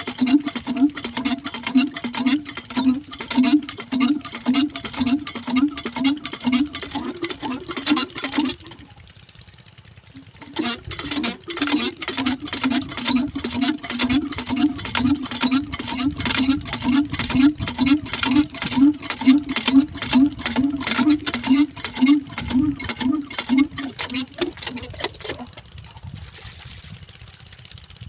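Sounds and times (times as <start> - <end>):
hand pump clanking: 0.0 - 9.2, 10.1 - 26.2.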